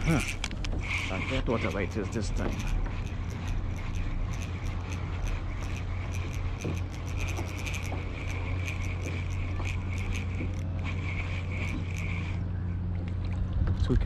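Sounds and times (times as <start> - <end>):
fishing reel ticking: 0.0 - 12.6
steady low hum: 0.0 - 14.0.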